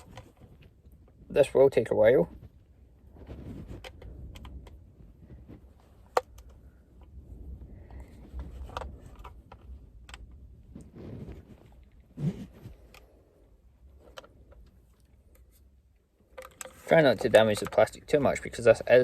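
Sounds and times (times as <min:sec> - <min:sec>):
plastic clicks and scrapes: 0:00.0 - 0:01.2, 0:03.1 - 0:19.0.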